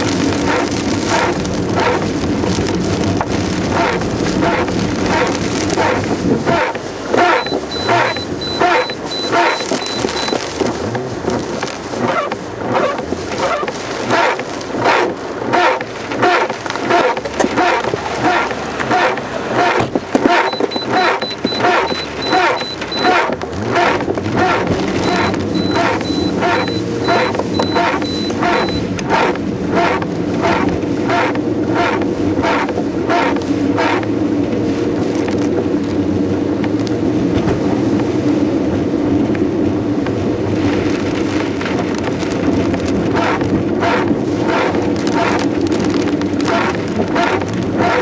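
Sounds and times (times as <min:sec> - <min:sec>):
car engine and road noise: 0:00.0 - 0:48.0
heavy rain: 0:00.0 - 0:48.0
windshield wipers swishing: 0:00.0 - 0:48.0.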